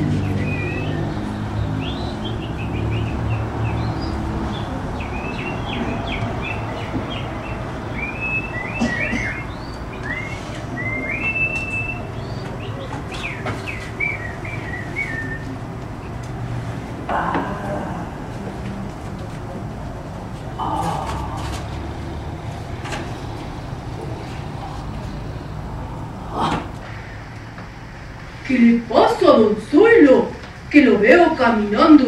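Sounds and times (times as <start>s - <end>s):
birds chirping: 0.0s - 27.4s.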